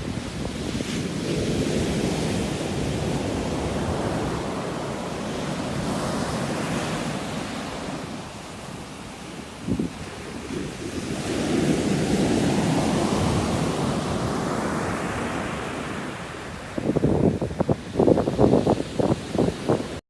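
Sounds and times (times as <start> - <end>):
sea waves washing in: 0.0 - 20.0.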